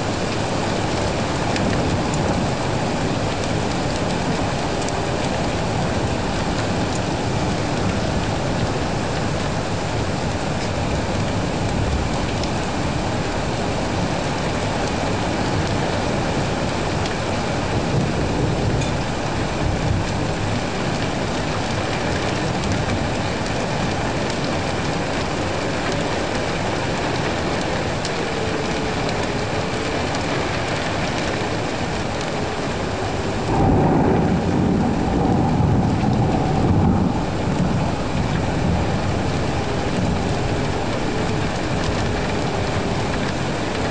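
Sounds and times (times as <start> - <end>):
steady rain falling: 0.0 - 43.9
thunder rumbling: 0.0 - 43.9.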